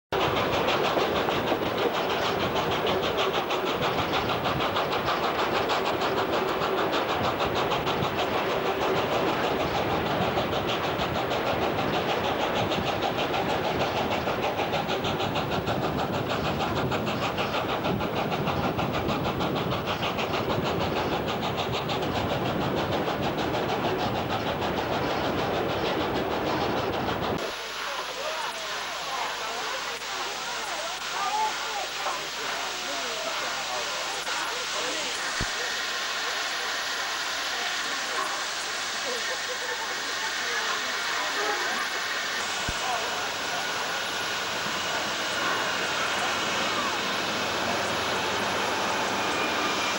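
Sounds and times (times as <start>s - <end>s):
steam locomotive exhaust beat: 0.1s - 49.9s.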